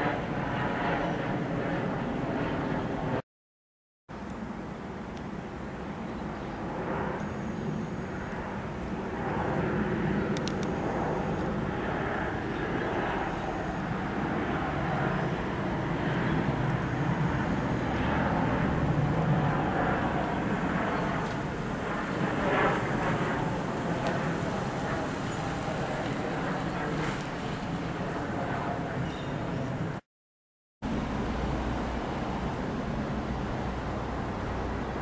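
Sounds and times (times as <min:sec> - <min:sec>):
jet engines rumbling: 0:00.0 - 0:03.2, 0:04.6 - 0:30.0, 0:30.9 - 0:35.0.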